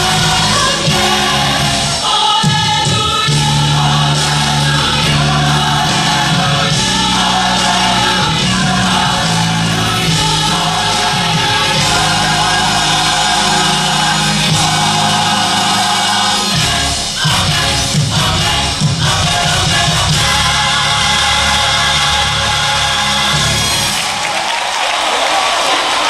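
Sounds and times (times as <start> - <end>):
gospel choir singing: 0.0 - 24.5.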